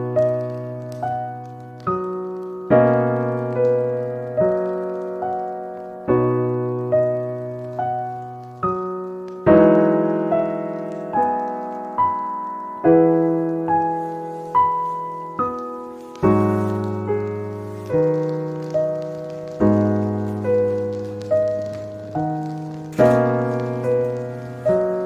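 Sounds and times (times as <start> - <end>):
slow solo piano music: 0.0 - 25.0.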